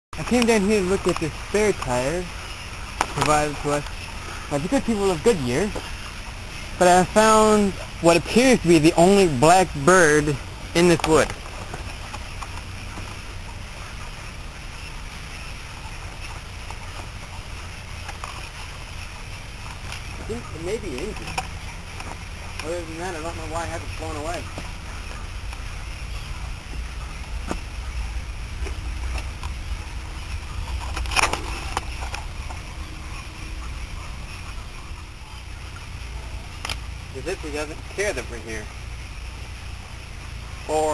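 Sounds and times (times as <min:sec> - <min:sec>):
faint ticks and rustles: 0:00.2 - 0:40.9
low outdoor rumble: 0:00.2 - 0:40.9.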